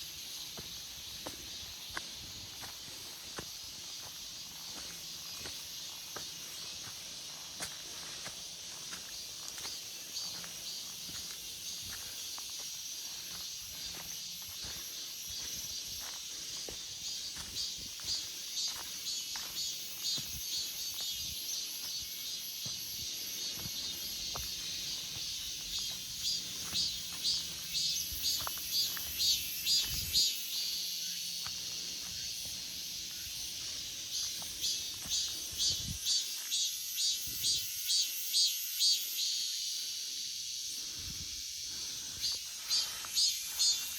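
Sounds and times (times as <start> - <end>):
cicadas singing: 0.0 - 43.9.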